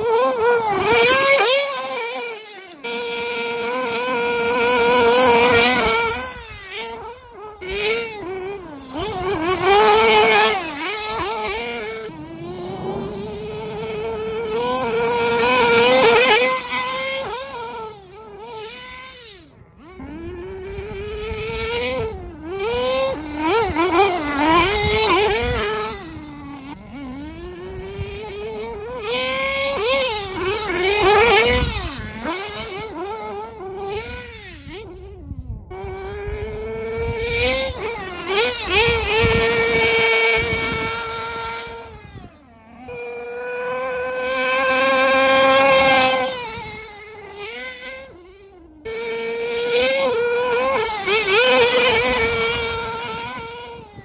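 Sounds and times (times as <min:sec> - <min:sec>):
nitro engine revving: 0:00.0 - 0:54.0.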